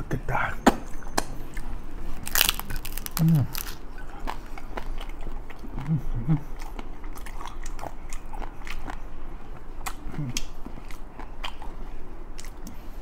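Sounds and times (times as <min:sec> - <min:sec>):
tostada crunching: 0:01.2 - 0:13.0.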